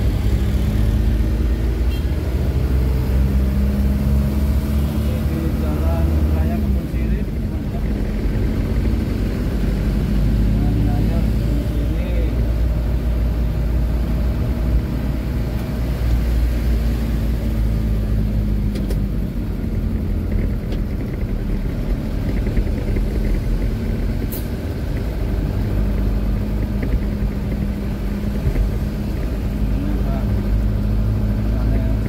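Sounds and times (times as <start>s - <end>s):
road noise: 0.0s - 32.0s
truck engine rumbling: 0.0s - 32.0s.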